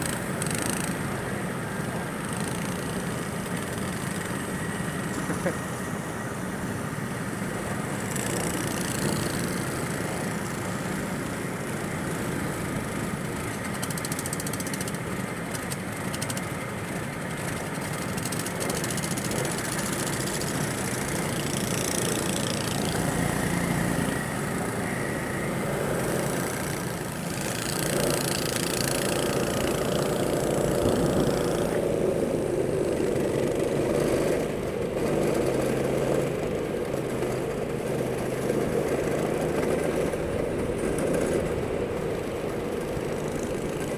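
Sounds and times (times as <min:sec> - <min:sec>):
go-kart engine running: 0:00.0 - 0:43.9.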